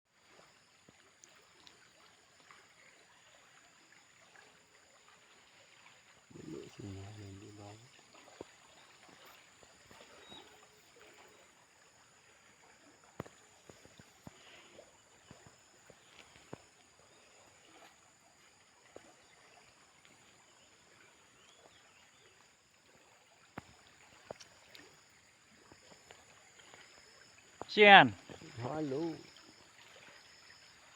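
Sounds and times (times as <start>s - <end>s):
faint steady hiss: 0.1s - 30.9s.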